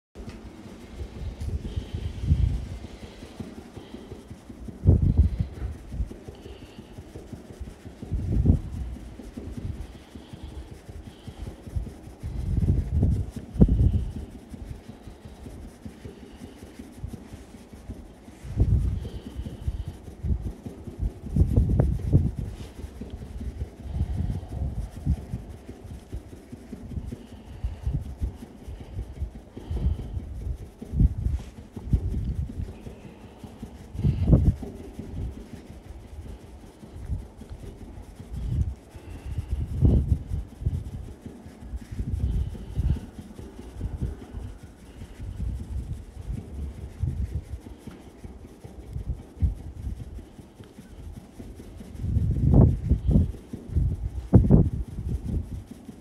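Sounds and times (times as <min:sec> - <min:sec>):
hand drumming on fan grille: 0:00.2 - 0:56.0.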